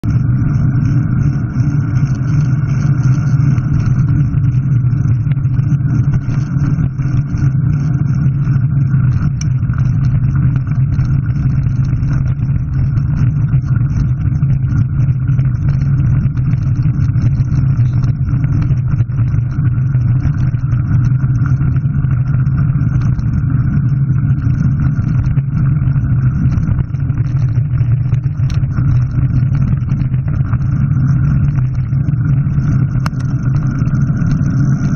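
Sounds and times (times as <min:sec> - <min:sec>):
rumble of travel on gravel: 0:00.0 - 0:34.9.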